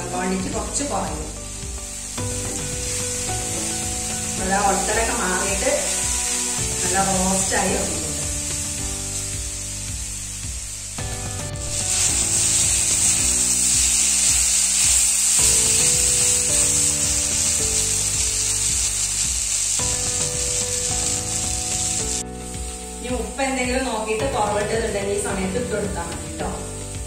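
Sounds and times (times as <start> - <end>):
background music with held notes: 0.0 - 27.0
okra sizzling in a pan: 0.0 - 27.0.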